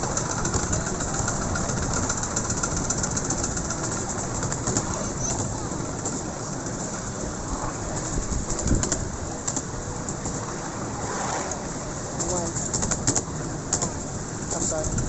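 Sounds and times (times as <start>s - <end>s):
miniature steam train rumble: 0.0s - 15.0s
wheels clattering on rails: 0.0s - 15.0s.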